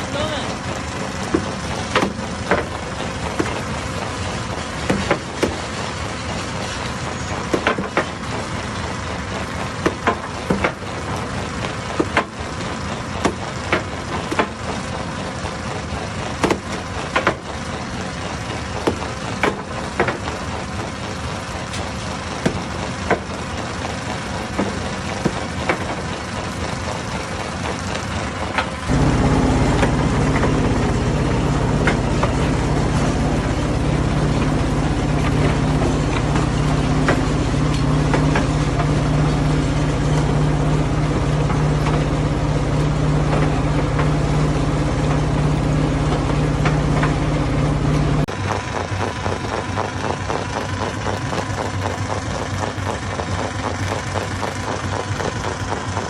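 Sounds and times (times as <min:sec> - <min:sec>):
deep engine drone: 0:00.0 - 0:56.0
stone crusher running: 0:00.0 - 0:56.0.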